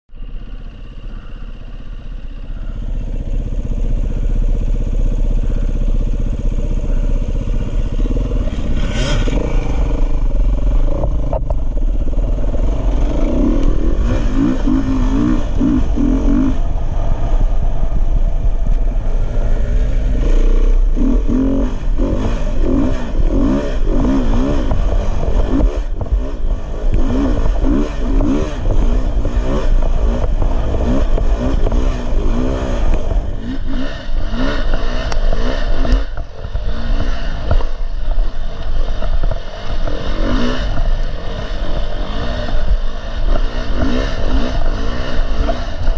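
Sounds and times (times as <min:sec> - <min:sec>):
dirt bike engine revving: 0:00.4 - 0:45.9
wind rumble on microphone: 0:05.2 - 0:45.9.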